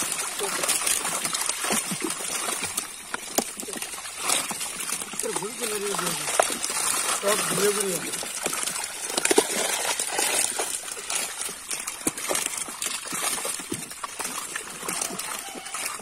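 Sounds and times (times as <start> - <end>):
fish thrashing and splashing: 0.0 - 16.0.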